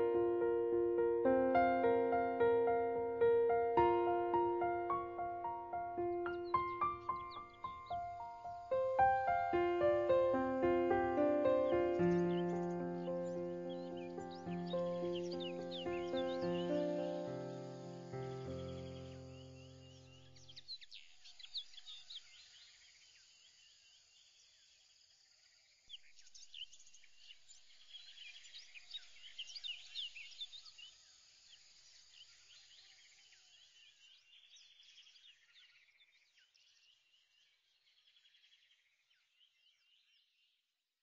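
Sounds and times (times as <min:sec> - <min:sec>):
faint birds chirping: 0:00.0 - 0:40.5.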